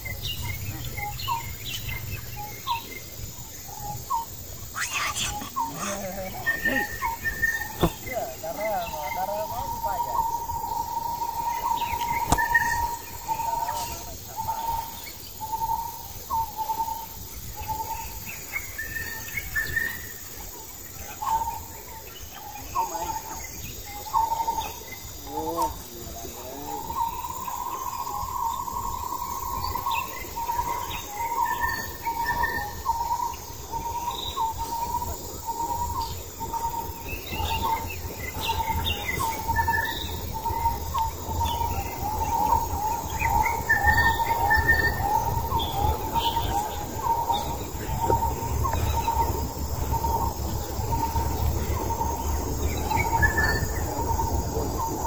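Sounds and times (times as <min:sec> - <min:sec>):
birds chirping high: 0:00.0 - 0:55.0.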